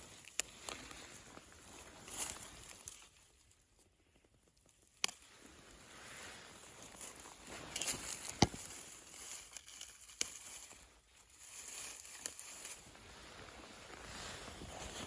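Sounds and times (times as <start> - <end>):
rustling in dry undergrowth: 0.0 - 15.0.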